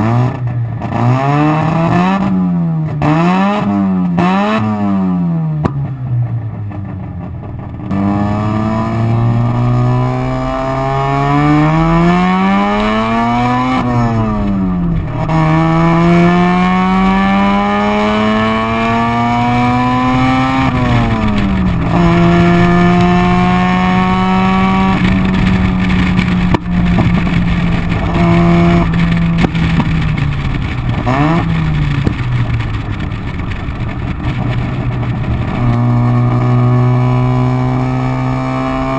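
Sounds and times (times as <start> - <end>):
rotary engine accelerating: 0.0 - 6.0, 7.7 - 38.9.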